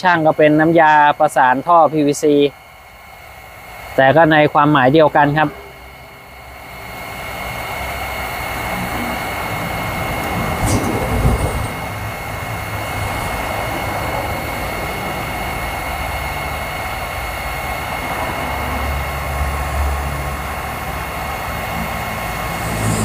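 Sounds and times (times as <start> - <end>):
heat gun fan rushing: 0.0 - 23.0
high whine: 0.0 - 23.0.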